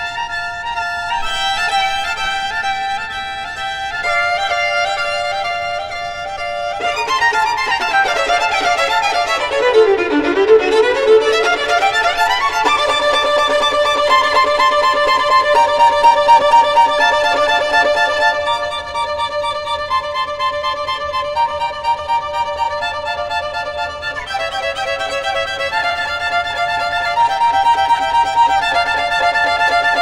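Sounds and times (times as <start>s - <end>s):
violin playing: 0.0s - 30.0s.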